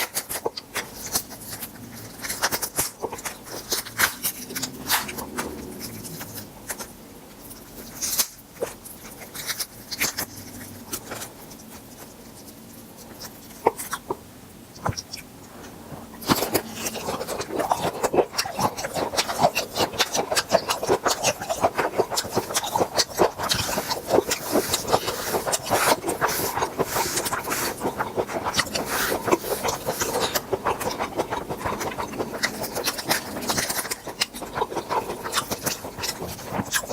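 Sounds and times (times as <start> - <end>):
crunching and chewing: 0.0 - 36.9.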